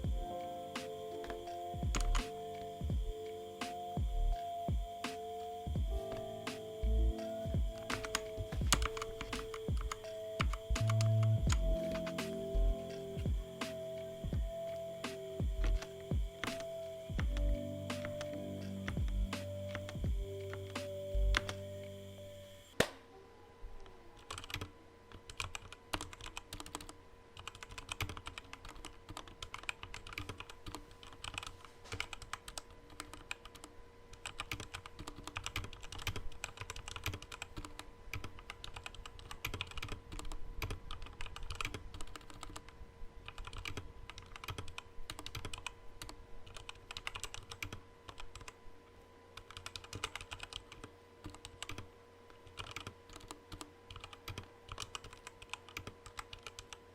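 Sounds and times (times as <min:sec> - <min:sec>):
mechanical keyboard typing: 0:00.0 - 0:04.0, 0:05.8 - 0:22.0, 0:24.2 - 0:48.6, 0:49.4 - 0:56.9.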